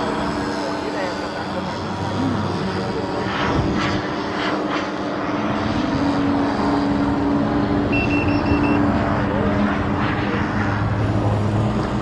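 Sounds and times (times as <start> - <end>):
model plane motor droning: 0.0 - 12.0.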